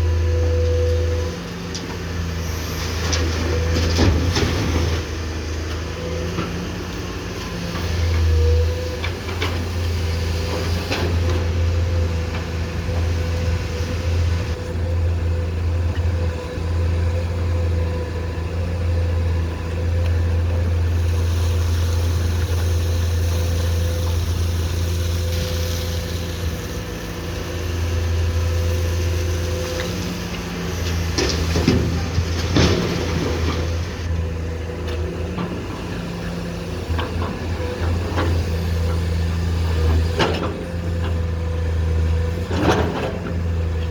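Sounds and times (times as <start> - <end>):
excavator diesel engine droning: 0.0 - 43.9.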